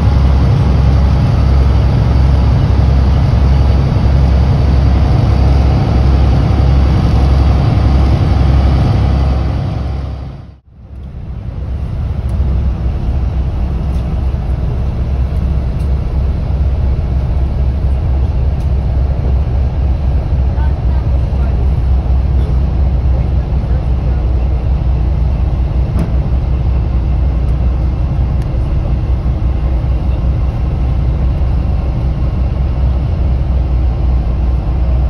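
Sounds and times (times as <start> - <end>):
motorboat engine running: 0.0 - 35.0
wind rumble: 0.0 - 35.0.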